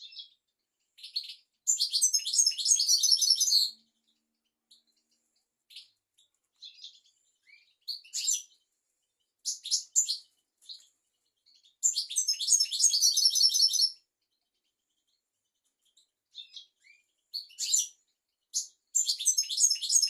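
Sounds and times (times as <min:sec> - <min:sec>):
goldfinch twittering song: 0:01.0 - 0:08.7, 0:09.4 - 0:15.2, 0:15.8 - 0:20.0.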